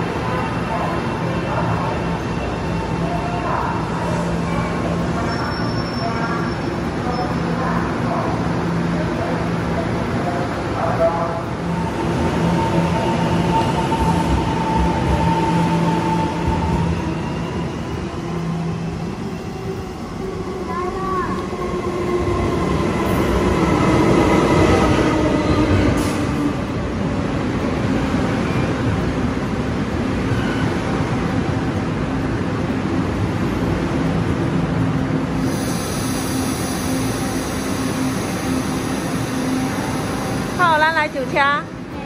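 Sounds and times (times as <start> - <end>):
train high whine: 0.0 - 42.0
train low rumble: 0.0 - 42.0.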